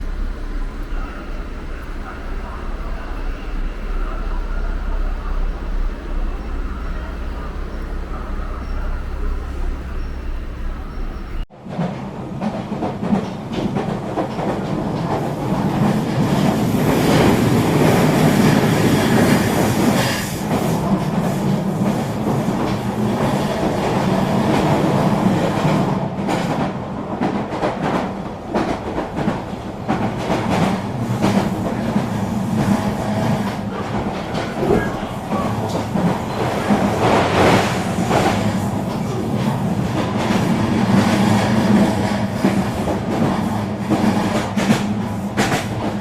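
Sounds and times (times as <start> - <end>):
train rumbling along track: 0.0 - 46.0.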